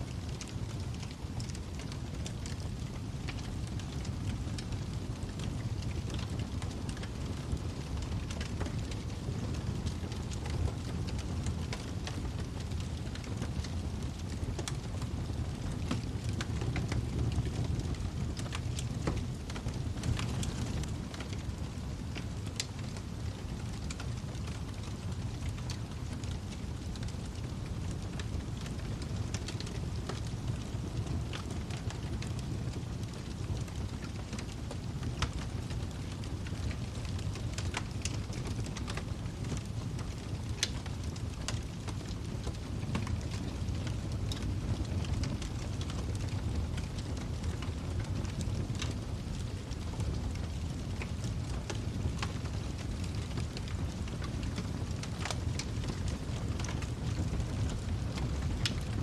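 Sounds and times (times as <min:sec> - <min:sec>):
low rumble of flames: 0:00.0 - 0:59.0
wood fire burning and crackling: 0:00.0 - 0:59.0.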